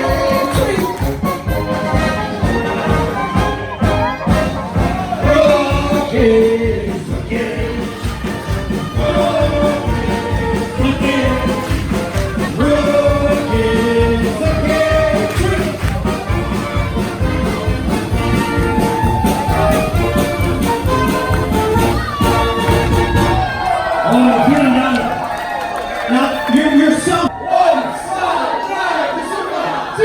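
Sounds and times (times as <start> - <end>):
brass band music: 0.0 - 30.0.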